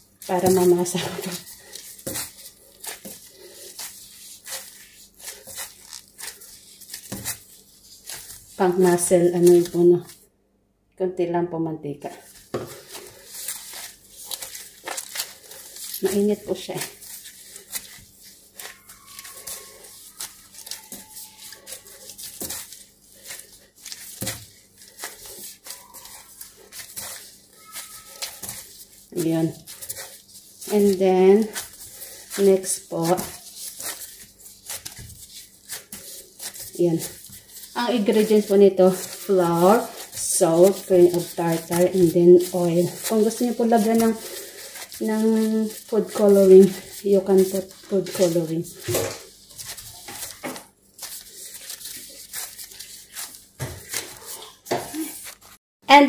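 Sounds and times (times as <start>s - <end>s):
plastic gloves crinkling: 0.0s - 10.2s, 12.0s - 55.6s
play dough squishing: 0.0s - 10.2s, 12.2s - 55.6s.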